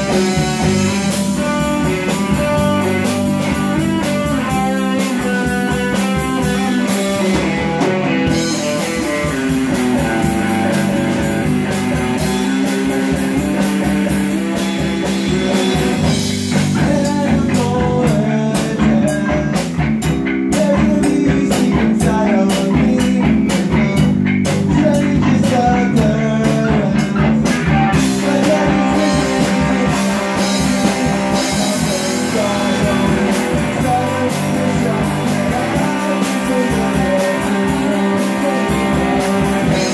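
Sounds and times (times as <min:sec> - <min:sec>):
drums keeping steady beat: 0:00.0 - 0:39.9
rock band playing live: 0:00.0 - 0:39.9.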